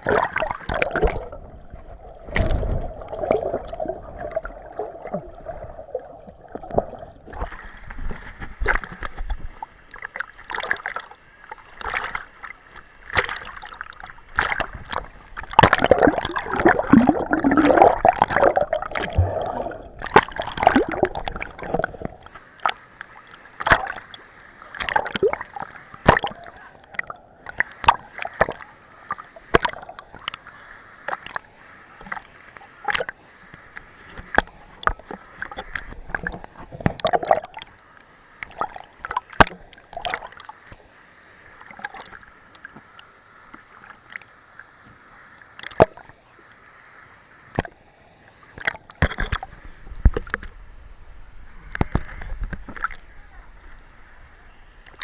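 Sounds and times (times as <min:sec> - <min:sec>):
water splashing and sloshing: 0:00.0 - 0:46.2, 0:47.5 - 0:55.0.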